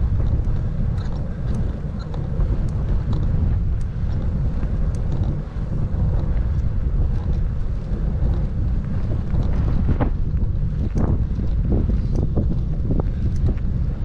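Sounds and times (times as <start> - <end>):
faint ticks: 0.0 - 14.0
wind buffeting microphone: 0.0 - 14.0.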